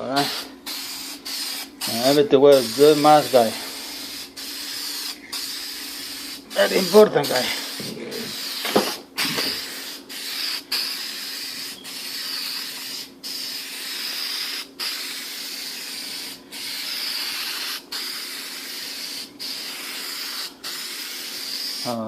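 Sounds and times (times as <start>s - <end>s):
spray paint hissing: 0.1s - 22.0s.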